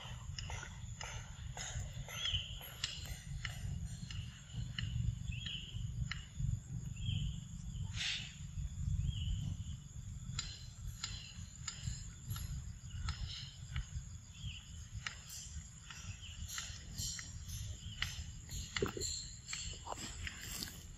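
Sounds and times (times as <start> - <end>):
low rumble: 0.0 - 18.9
high chirps: 0.0 - 20.9.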